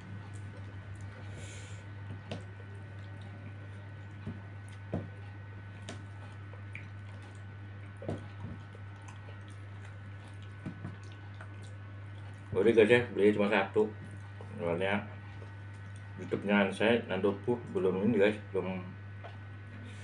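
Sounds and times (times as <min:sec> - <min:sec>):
chewing with wet smacks: 0:00.0 - 0:16.5, 0:19.0 - 0:20.0
steady low hum: 0:00.0 - 0:20.0.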